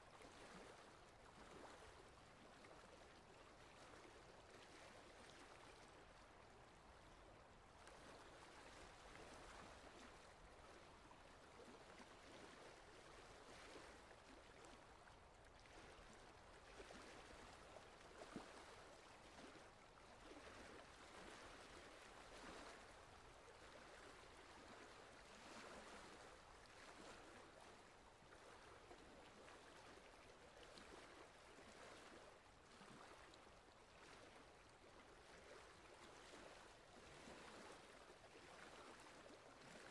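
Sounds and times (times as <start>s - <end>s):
water lapping against boat: 0.1s - 39.9s.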